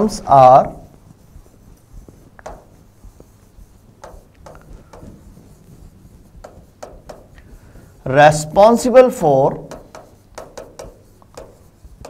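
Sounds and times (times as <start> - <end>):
chalk scratching on chalkboard: 0.0 - 12.0.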